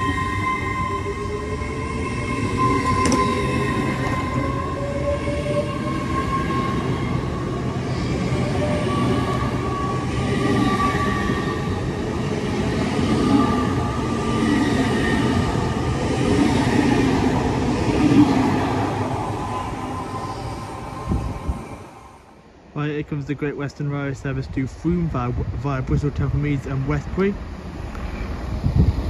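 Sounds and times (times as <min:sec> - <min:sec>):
train whine: 0:00.0 - 0:22.7, 0:26.1 - 0:29.0
train rumble: 0:00.0 - 0:29.0.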